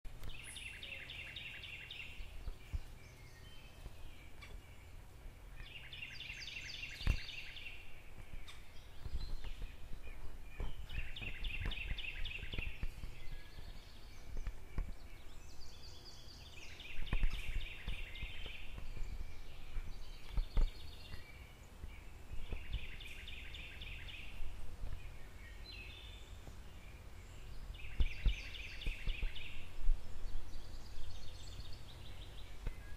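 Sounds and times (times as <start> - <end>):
songbird singing rapid notes: 0.1 - 32.9.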